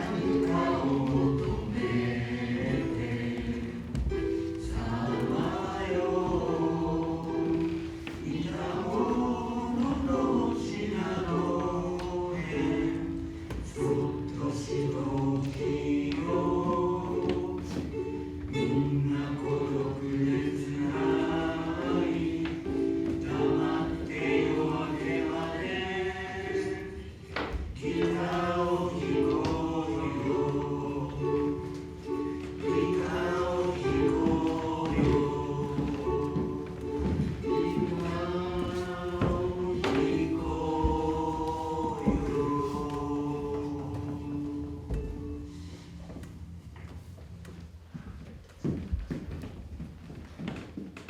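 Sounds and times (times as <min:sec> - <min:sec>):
group of voices singing: 0:00.0 - 0:46.0.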